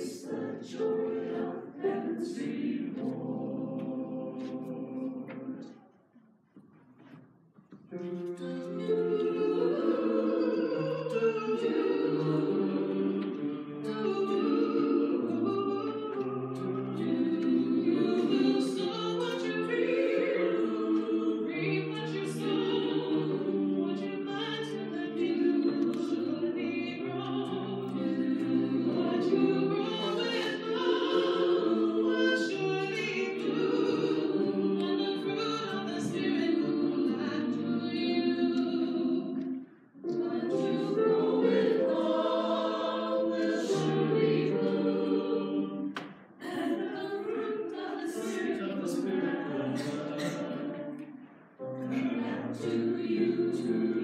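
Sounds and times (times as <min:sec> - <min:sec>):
church choir singing: 0:00.0 - 0:06.0, 0:07.8 - 0:54.0.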